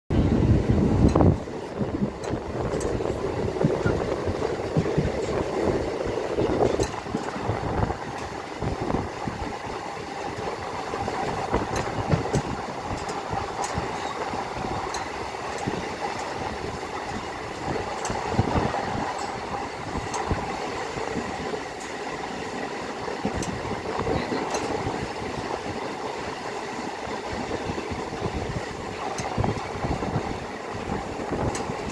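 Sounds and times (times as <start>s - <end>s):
moving vehicle rumbling and rattling: 0.1s - 31.9s.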